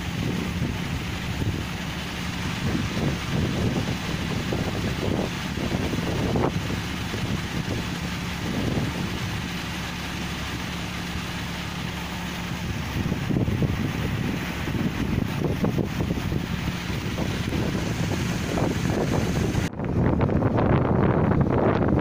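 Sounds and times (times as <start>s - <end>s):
combine harvester running: 0.0s - 22.0s
wind buffeting microphone: 0.0s - 22.0s.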